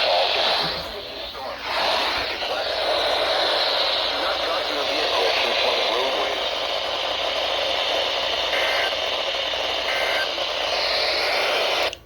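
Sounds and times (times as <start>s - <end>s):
two-tone data warble: 0.0s - 11.8s
radio static hiss: 0.0s - 11.9s.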